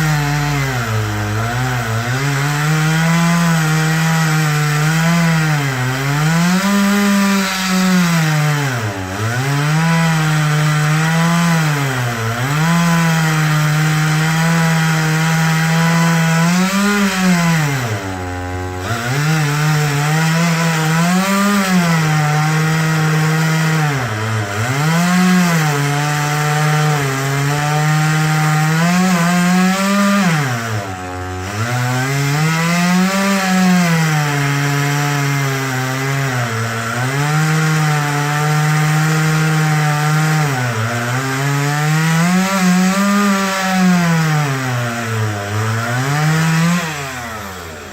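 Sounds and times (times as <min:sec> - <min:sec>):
chainsaw running: 0:00.0 - 0:47.9.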